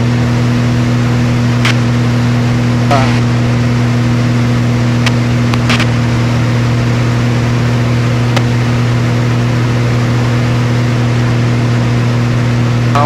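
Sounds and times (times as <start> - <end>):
plane engine and propeller droning: 0.0 - 13.0.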